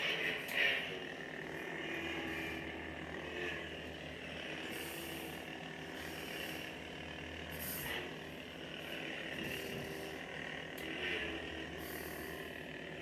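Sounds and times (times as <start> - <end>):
toy lightsaber electronic hum: 0.0 - 3.8, 4.5 - 8.3, 8.9 - 12.7.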